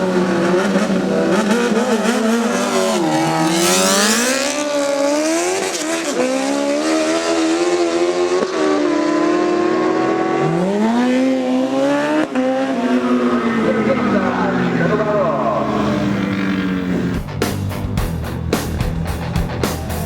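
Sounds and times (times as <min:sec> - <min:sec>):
racing engine revving: 0:00.0 - 0:20.0.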